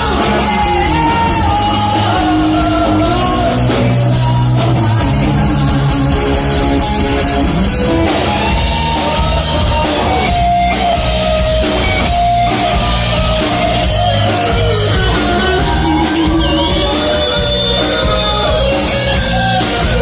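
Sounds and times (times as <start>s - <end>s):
band playing amplified music: 0.0s - 20.0s
drums: 0.0s - 20.0s
guitar: 0.0s - 20.0s.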